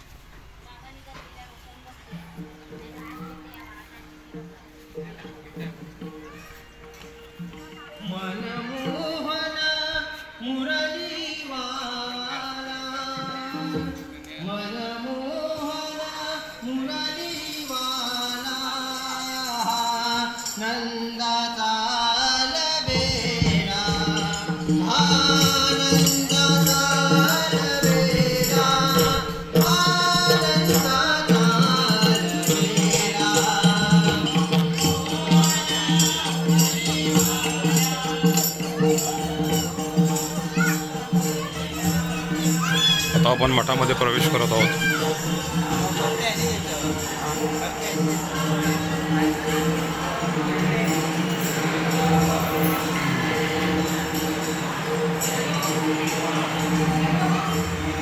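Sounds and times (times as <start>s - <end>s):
percussion: 0.0s - 58.0s
solo voice singing: 8.0s - 58.0s.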